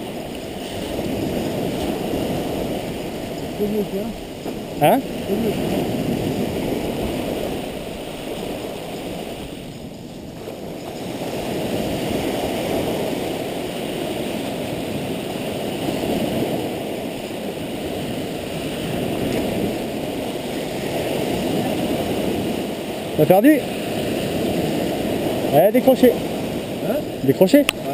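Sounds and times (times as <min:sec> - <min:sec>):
sea surf washing onto beach: 0:00.0 - 0:27.9.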